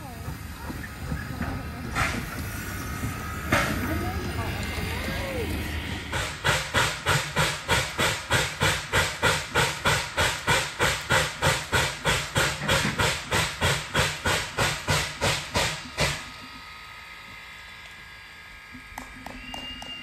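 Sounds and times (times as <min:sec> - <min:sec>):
steam air pump panting: 0:00.0 - 0:16.3
steam hiss: 0:00.0 - 0:16.3.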